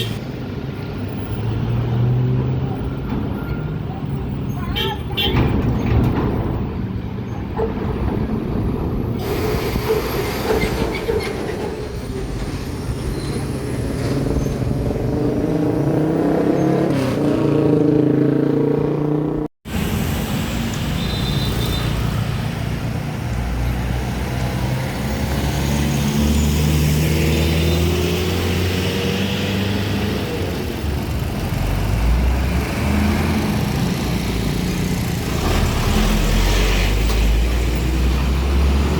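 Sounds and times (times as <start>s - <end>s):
diesel truck engines under load: 0.0s - 18.4s, 19.8s - 38.9s.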